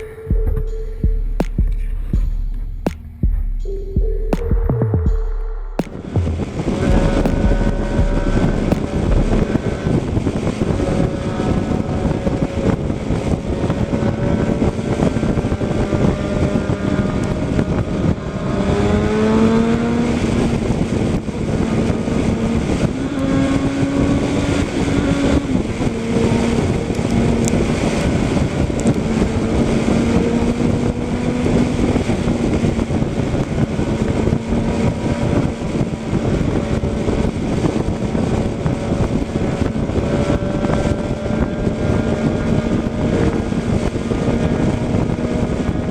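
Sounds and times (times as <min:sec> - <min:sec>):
vehicle engine running: 0:00.0 - 0:45.9
wind and road noise: 0:05.8 - 0:45.9.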